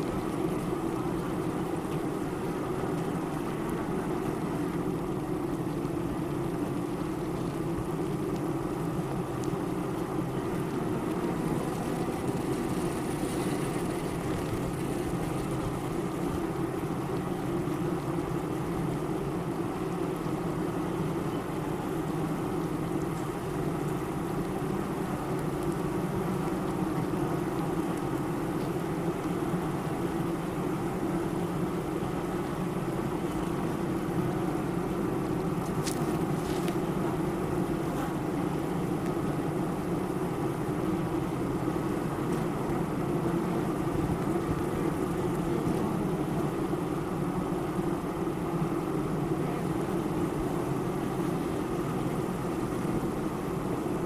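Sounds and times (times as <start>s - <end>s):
bees humming: 0.0s - 54.0s.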